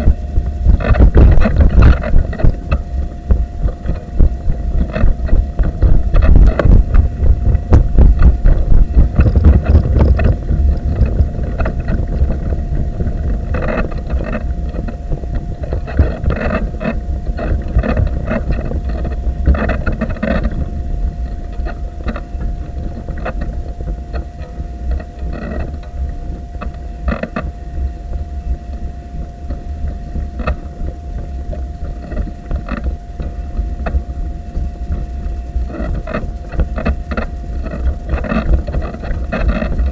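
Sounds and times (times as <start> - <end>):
faint steady whine: 0.0 - 39.9
wind on microphone: 0.0 - 39.9.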